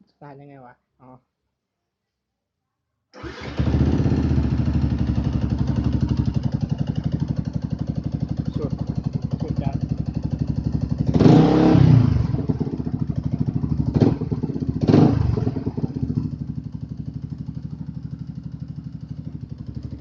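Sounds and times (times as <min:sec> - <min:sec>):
motorcycle engine idling: 0:03.2 - 0:20.0
motorcycle throttle blips: 0:03.2 - 0:20.0.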